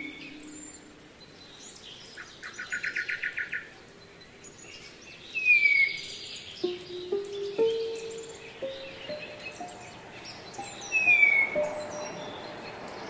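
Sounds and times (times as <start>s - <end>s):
songbird calls: 0.0s - 3.7s, 4.6s - 13.0s
steady background hiss: 0.0s - 13.0s.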